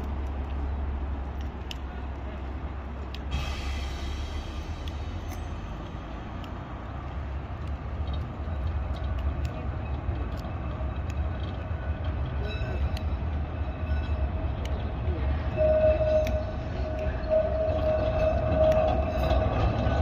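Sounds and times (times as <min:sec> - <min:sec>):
tram rumbling: 0:00.0 - 0:20.0
wheels clicking on rails: 0:00.0 - 0:20.0.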